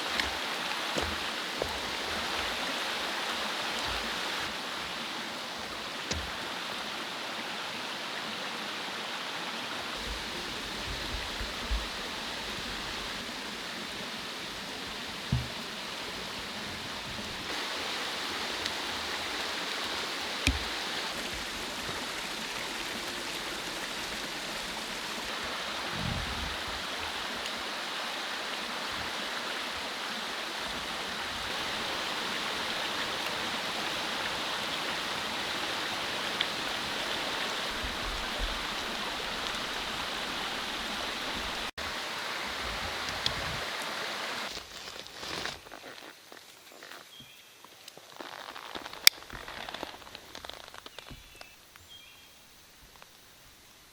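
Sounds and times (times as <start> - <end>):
mountain stream rushing: 0.0 - 44.6.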